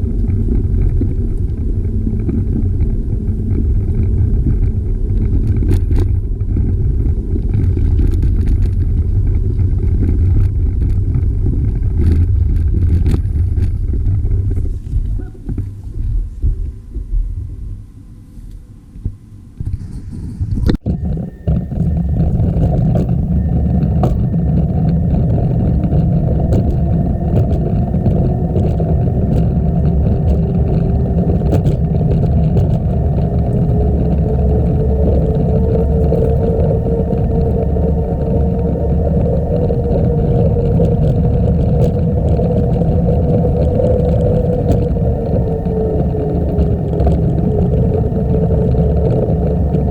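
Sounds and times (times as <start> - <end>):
wind rushing over microphone: 0.0 - 17.4, 19.6 - 49.9
faint hum: 0.0 - 49.9.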